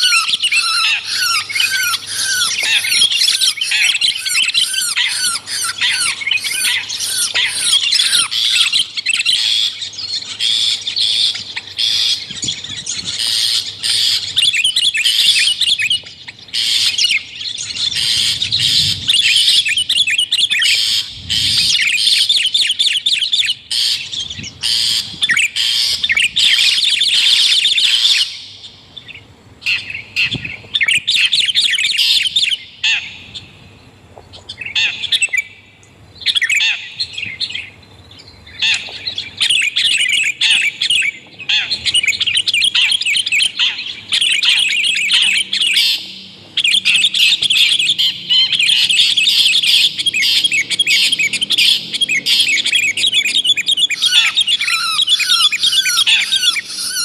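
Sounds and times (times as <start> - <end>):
harsh chattering bird calls: 0.0 - 33.6, 34.2 - 57.0.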